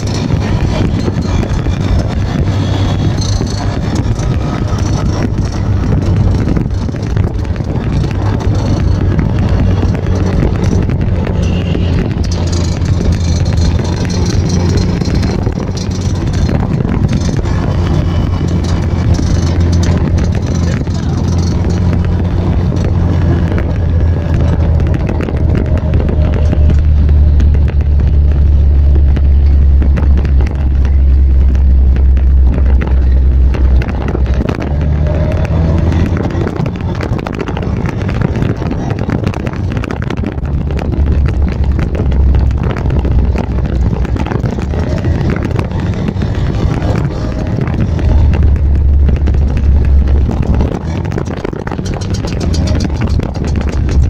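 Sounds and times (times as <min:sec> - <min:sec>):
scooter engines running: 0:00.0 - 0:54.0
wind noise on microphone: 0:00.0 - 0:54.0.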